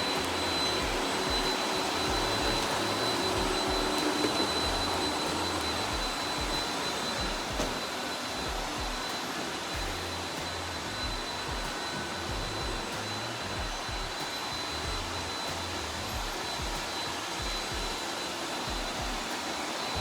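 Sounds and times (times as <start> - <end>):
robot vacuum cleaner running: 0.0 - 20.0
thin high whine: 0.0 - 20.0.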